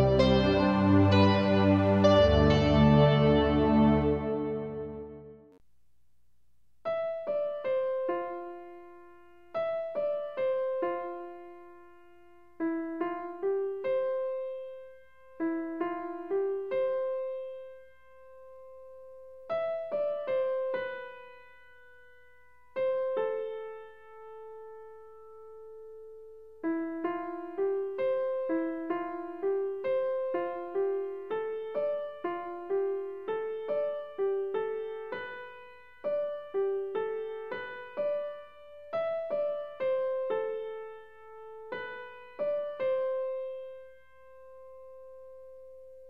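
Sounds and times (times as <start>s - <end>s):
gentle piano melody: 0.0s - 5.6s, 6.9s - 46.0s.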